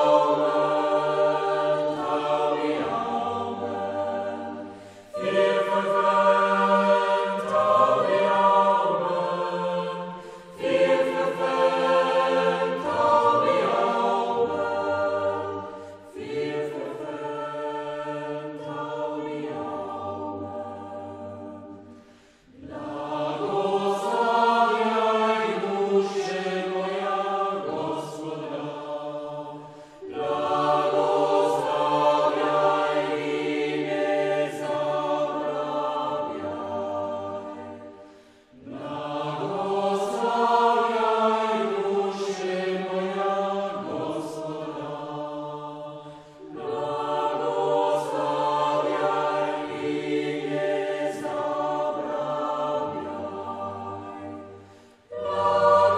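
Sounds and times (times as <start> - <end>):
choir singing: 0.0 - 55.9.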